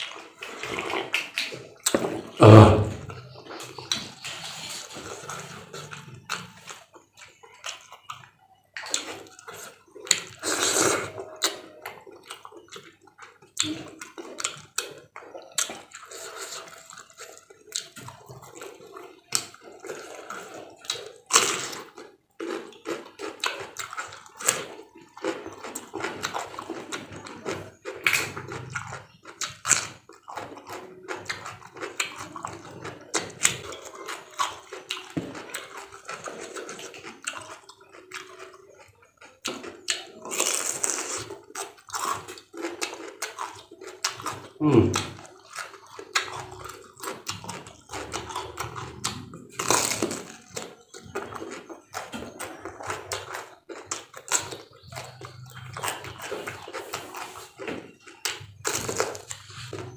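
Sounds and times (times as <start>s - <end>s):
person chewing and crunching: 0.0s - 59.9s
wet mouth sounds: 0.0s - 59.9s.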